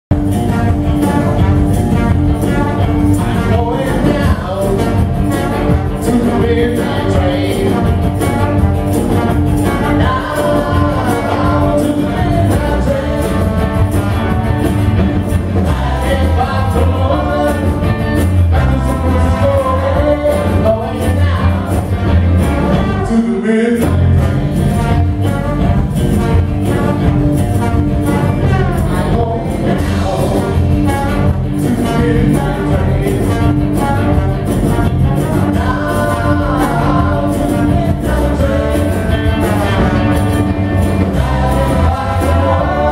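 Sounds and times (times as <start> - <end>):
live blues-rock band: 0.1 - 42.9
trombone melody: 0.1 - 42.9.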